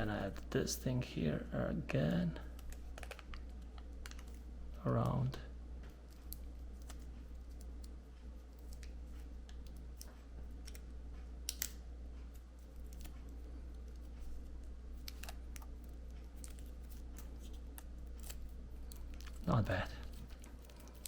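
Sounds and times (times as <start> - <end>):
steady low hum: 0.0 - 21.0
hands rustling and clicking: 2.4 - 5.2, 5.8 - 21.0.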